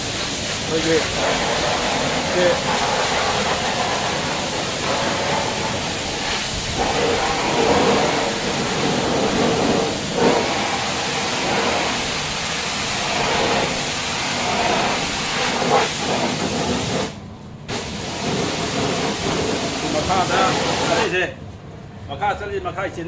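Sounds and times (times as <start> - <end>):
high-pressure water jets spraying: 0.0 - 21.2.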